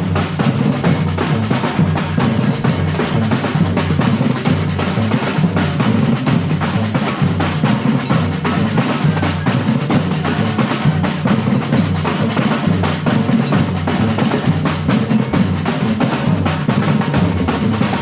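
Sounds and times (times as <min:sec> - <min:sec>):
drum ensemble playing: 0:00.0 - 0:18.0.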